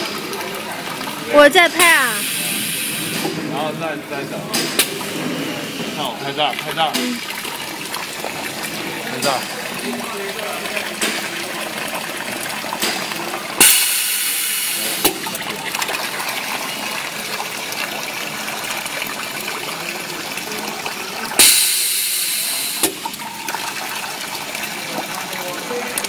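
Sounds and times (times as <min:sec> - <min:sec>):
liquid gushing from filling machine: 0:00.0 - 0:26.0.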